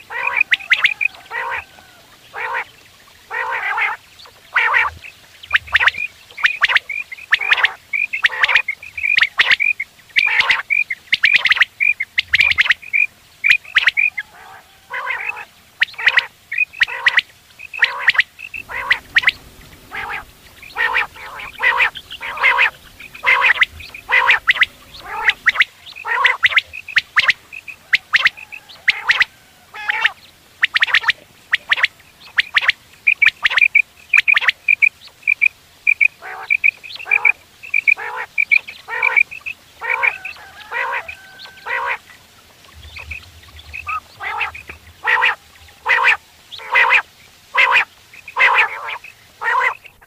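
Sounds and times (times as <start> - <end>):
quail calling: 0.0 - 50.0.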